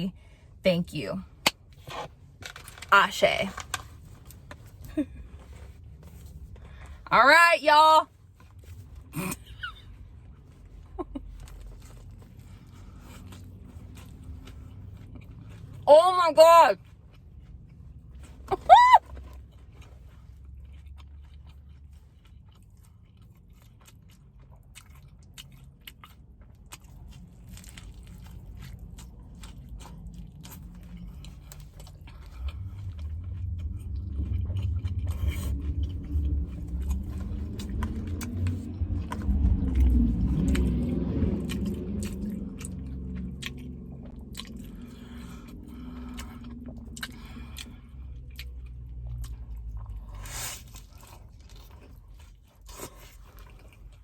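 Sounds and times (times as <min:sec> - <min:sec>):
person chewing crunchy food: 0:08.2 - 0:15.8, 0:16.8 - 0:54.0.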